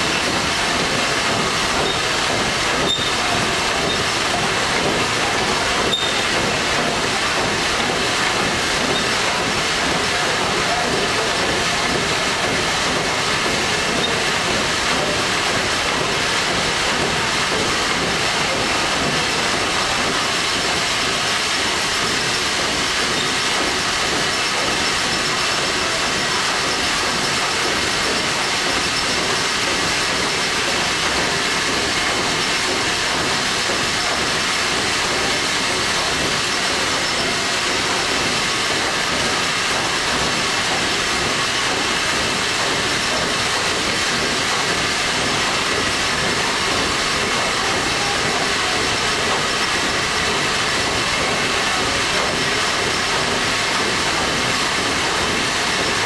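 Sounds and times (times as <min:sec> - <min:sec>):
steam engine running: 0:00.0 - 0:56.0.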